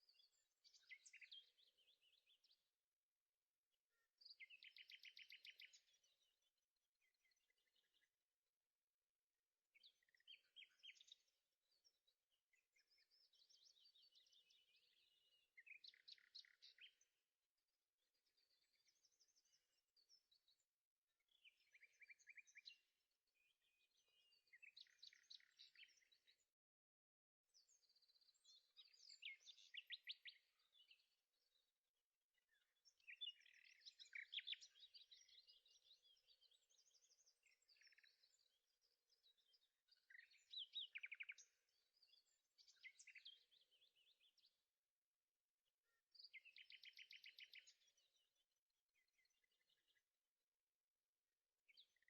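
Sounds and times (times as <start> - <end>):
faint birdsong: 0.0 - 52.0.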